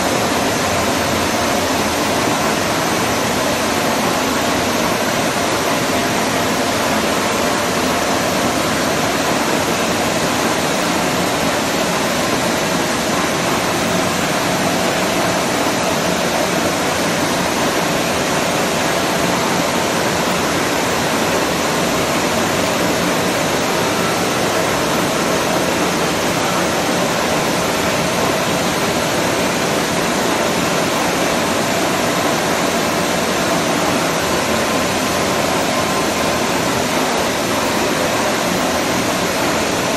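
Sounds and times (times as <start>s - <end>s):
milling machine running: 0.0s - 39.9s.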